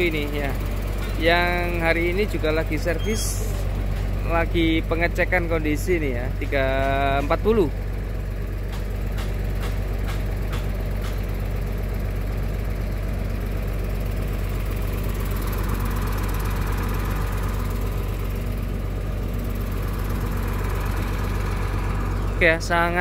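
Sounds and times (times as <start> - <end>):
diesel bus engine idling: 0.0 - 23.0.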